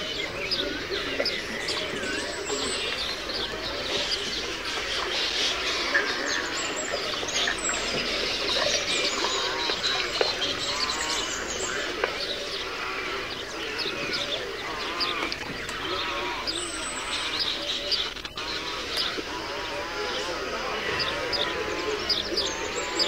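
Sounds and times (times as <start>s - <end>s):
chorus of birds calling: 0.0s - 23.0s.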